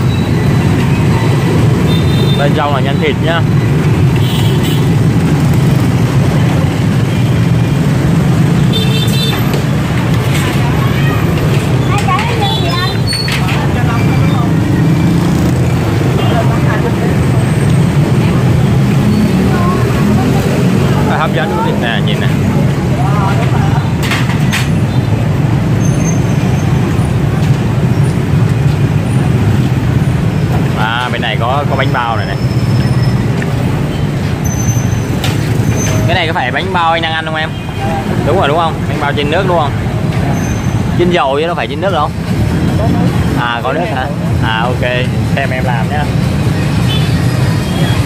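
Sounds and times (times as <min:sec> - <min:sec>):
motorbikes passing: 0:00.0 - 0:48.0.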